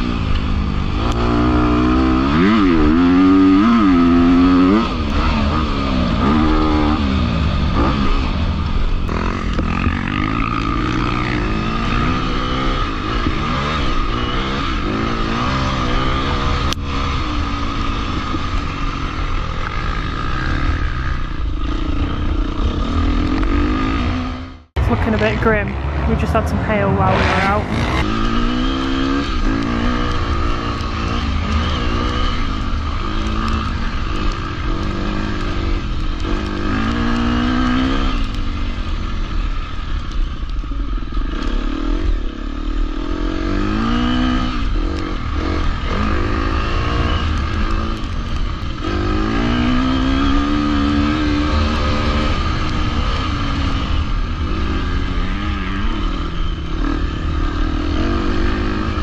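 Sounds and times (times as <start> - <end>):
motocross bike engine revving: 0.0 - 40.2, 40.8 - 59.0.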